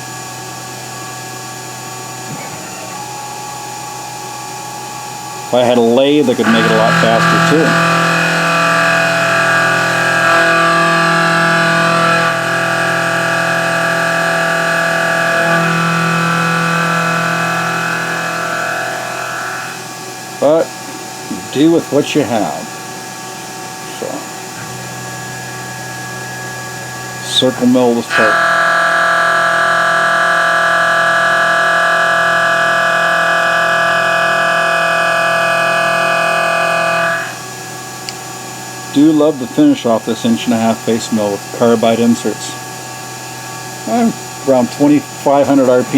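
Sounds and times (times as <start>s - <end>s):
milling machine cutting metal: 0.0s - 45.9s.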